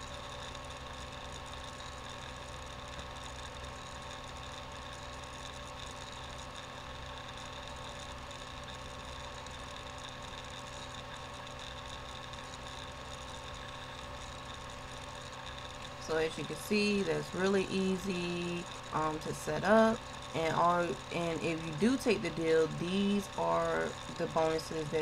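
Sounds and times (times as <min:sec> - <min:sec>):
electrical hum and whir: 0:00.0 - 0:25.0
faint constant tones: 0:00.0 - 0:25.0.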